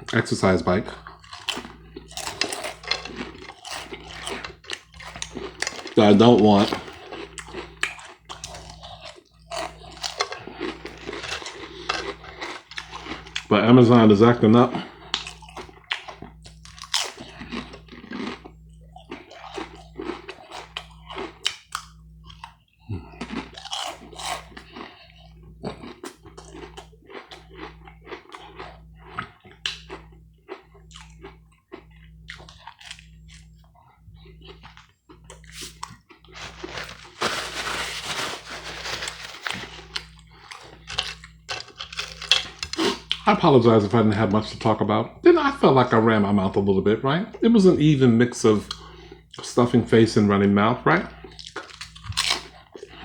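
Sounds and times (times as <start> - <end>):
crunching and chewing food: 0.0 - 53.0.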